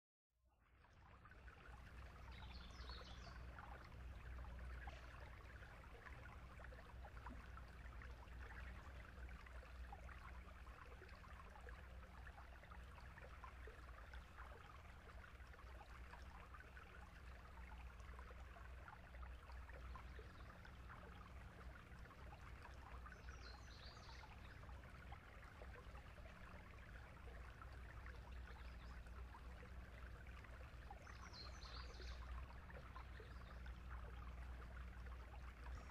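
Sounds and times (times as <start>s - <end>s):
faint running water: 0.4s - 35.9s.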